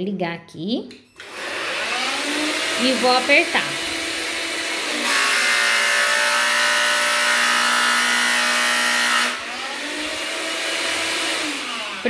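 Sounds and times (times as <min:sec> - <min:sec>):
vacuum motor running: 0:01.2 - 0:12.0.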